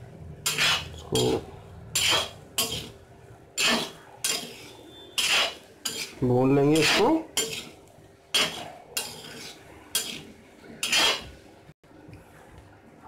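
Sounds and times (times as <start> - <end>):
metal spatula scraping iron pan: 0.4 - 11.4.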